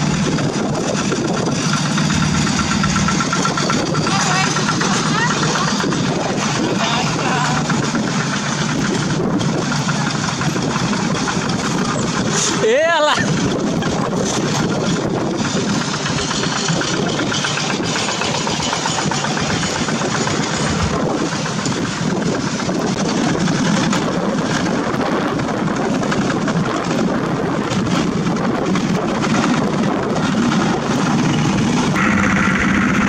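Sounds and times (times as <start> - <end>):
diesel tractor engines running: 0.0 - 33.0.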